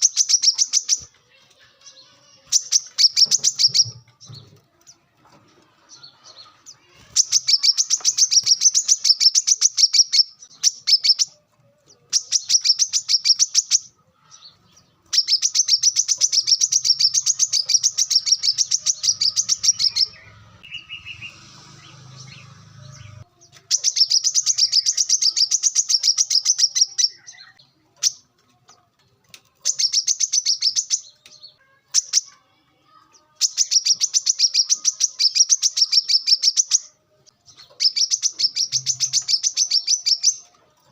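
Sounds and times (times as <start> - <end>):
bird singing high trilling notes: 0.0 - 1.2, 1.9 - 4.5, 5.9 - 11.4, 12.1 - 28.2, 29.6 - 32.4, 33.3 - 40.5.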